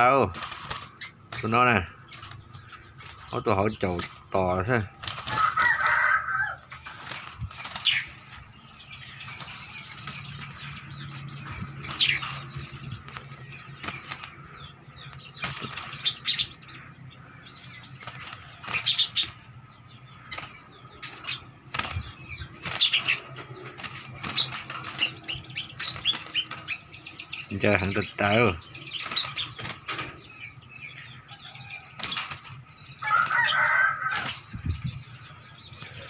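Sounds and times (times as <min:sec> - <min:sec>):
wingbeats against wire cage: 0:00.0 - 0:16.8, 0:17.5 - 0:30.3, 0:31.8 - 0:35.1
wings flapping: 0:00.2 - 0:16.8, 0:17.8 - 0:27.5, 0:28.8 - 0:30.3, 0:31.9 - 0:35.0.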